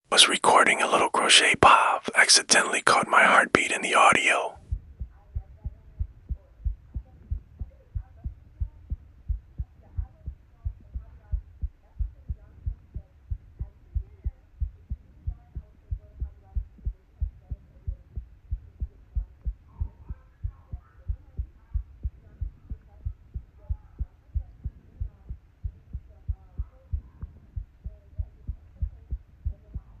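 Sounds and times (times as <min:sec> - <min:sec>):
heartbeat thumps: 0:04.5 - 0:30.0.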